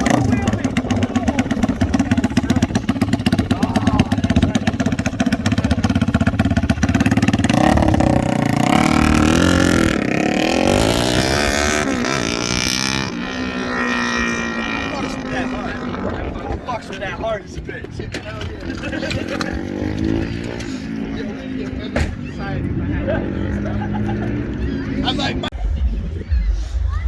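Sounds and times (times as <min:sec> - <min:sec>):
car engine revving: 0:00.0 - 0:16.7, 0:18.8 - 0:25.5.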